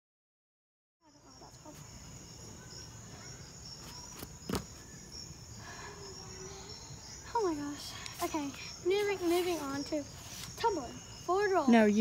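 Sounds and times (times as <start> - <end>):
insects chirring: 1.0 - 12.0.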